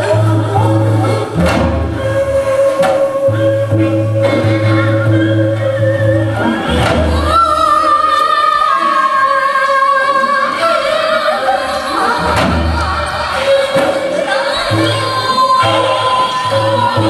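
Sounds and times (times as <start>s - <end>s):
low accompaniment: 0.0s - 8.7s, 10.5s - 17.0s
choir singing sustained notes: 0.0s - 17.0s.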